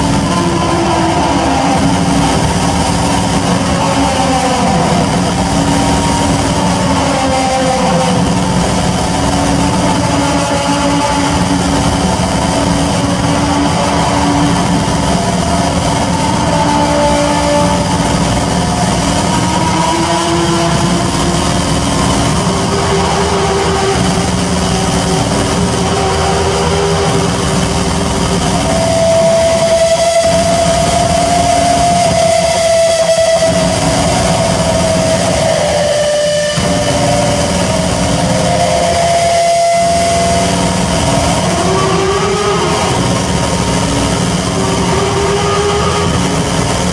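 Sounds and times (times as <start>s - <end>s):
electronic noise drone: 0.0s - 46.9s
hiss: 0.0s - 46.9s
wavering tone: 0.0s - 46.9s.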